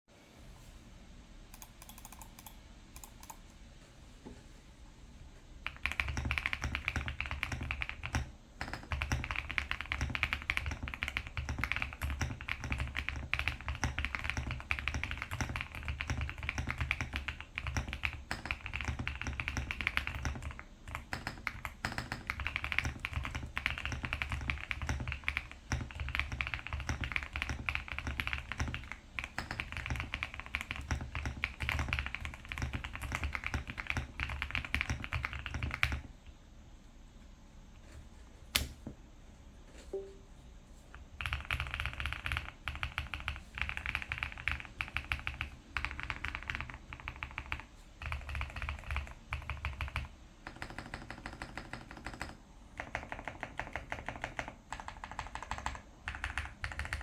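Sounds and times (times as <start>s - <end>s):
fast mechanical keyboard typing: 1.6s - 3.4s, 5.6s - 36.2s, 41.1s - 57.0s.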